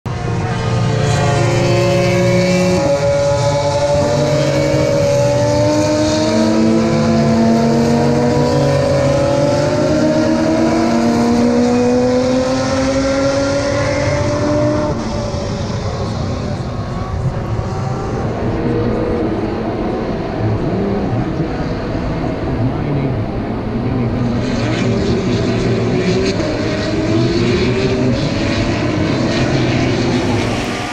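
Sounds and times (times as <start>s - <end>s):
racing car engines: 0.0s - 30.9s.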